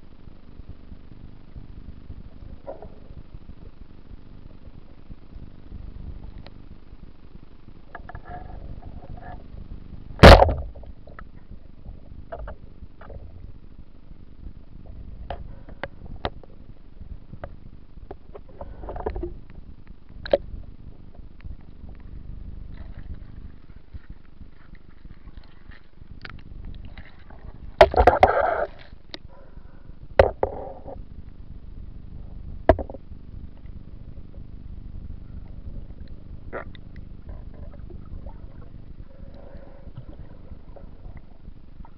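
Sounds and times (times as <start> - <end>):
underwater low rumble: 0.0 - 41.9.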